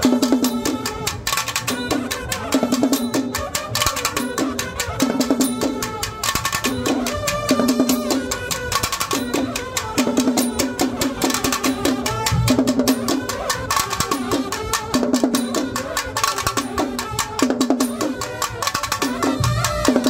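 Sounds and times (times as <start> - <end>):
wind ensemble playing melody: 0.0 - 20.0.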